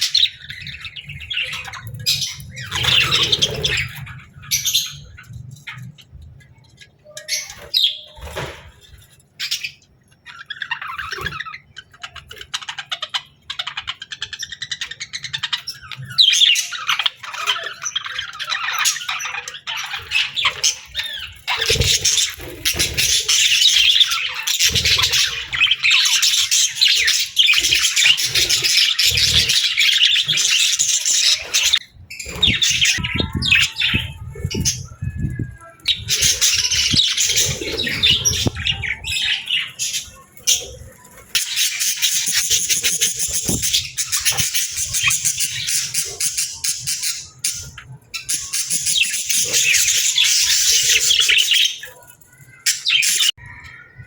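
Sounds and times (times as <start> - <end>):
budgerigar chirping and warbling: 0.0 - 5.2, 9.4 - 54.0.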